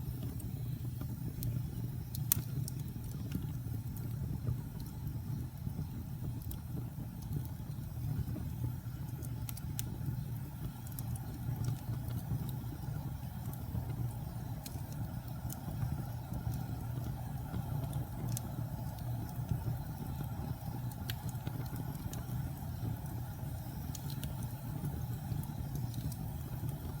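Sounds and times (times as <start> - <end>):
fire crackles and pops: 0.0 - 27.0
fire flames rumbling: 0.0 - 27.0.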